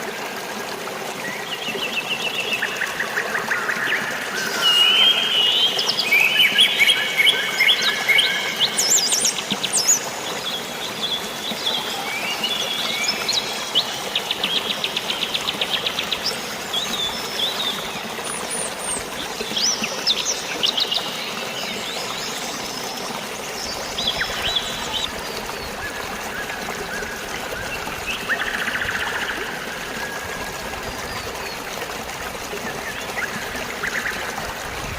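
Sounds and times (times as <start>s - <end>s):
flowing water: 0.0s - 34.9s
rain: 0.0s - 34.9s.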